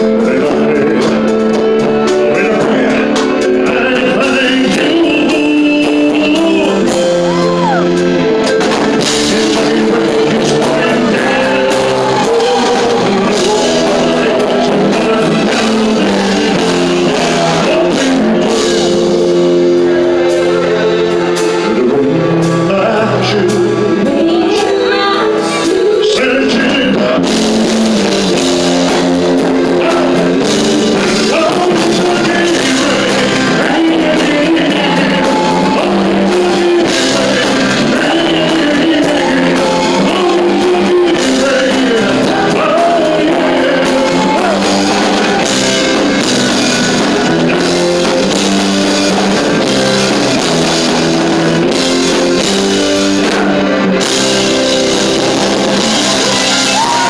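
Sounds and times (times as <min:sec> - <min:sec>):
man singing into a microphone: 0:00.0 - 0:52.5
drums: 0:00.0 - 0:57.0
guitar: 0:00.0 - 0:57.0
live rock band playing: 0:00.0 - 0:57.0.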